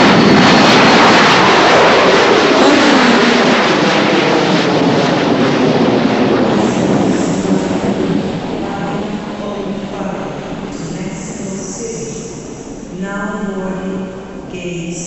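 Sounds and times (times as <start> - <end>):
jet engines at take-off: 0.0 - 15.0.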